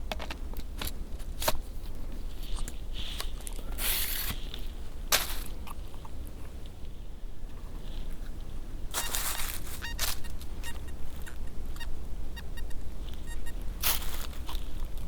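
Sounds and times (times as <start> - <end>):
sharp crackles and crunches: 0.0 - 6.8, 7.5 - 15.0
steady low rumble: 0.0 - 15.0
rustling crunch: 0.6 - 15.0.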